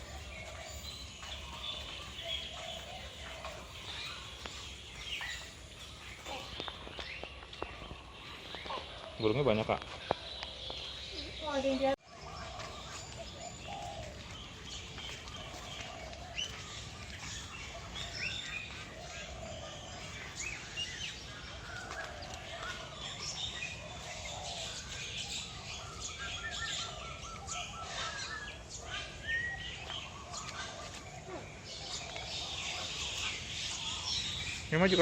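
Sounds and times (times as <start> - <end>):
birds chirping and whistling: 0.0 - 35.0.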